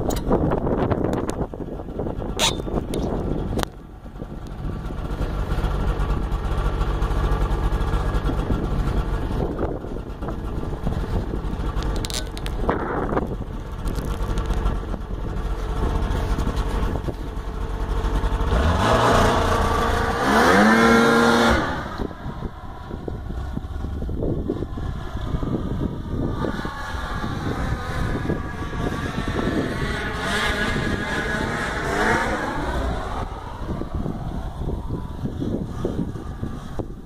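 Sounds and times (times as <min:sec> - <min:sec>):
snowmobile engine running: 0:00.0 - 0:37.0.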